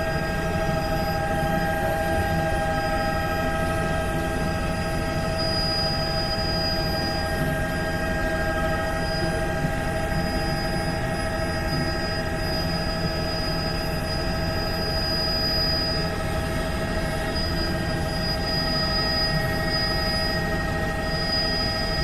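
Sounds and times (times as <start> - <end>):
helicopter drone with whining tones: 0.0 - 22.0.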